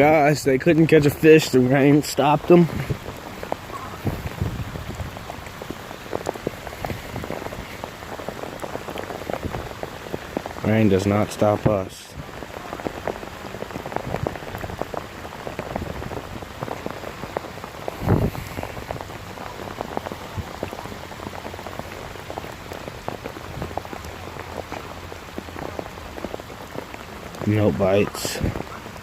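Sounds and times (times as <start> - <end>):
rain drops hitting microphone: 0.0 - 29.0.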